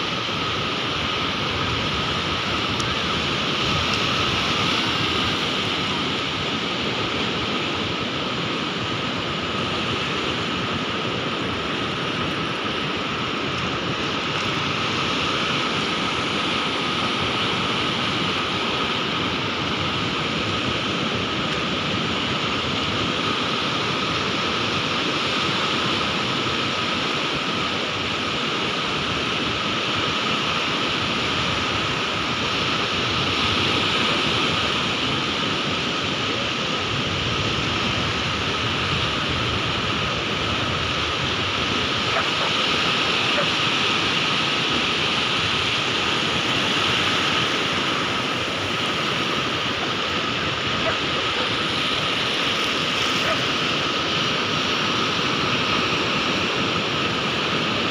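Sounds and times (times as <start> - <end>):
surf rushing: 0.0 - 57.9.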